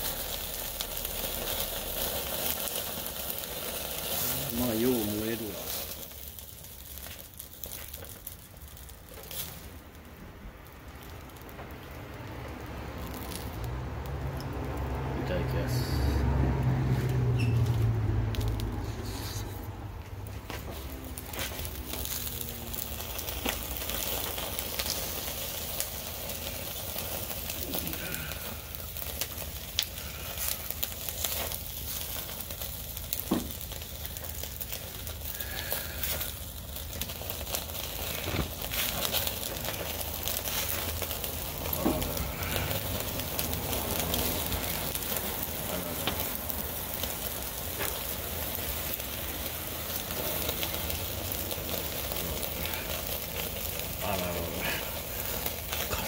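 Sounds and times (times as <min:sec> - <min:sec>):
food sizzling over charcoal: 0:00.0 - 0:56.0
sharp pops and crackles: 0:00.0 - 0:56.0.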